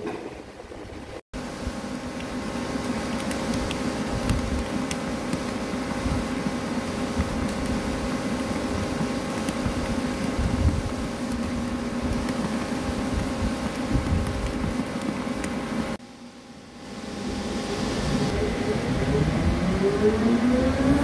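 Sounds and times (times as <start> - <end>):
idling machinery hum: 1.4 - 21.0.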